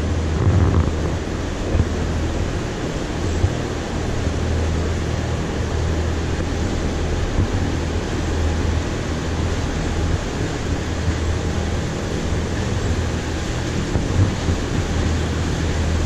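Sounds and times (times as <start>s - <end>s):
low engine hum: 0.0s - 16.0s
rushing noise of moving vehicle: 0.0s - 16.0s.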